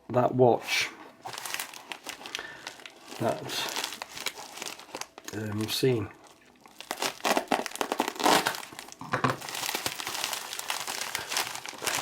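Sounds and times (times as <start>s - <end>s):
packaging crinkling and rustling: 1.2s - 12.0s.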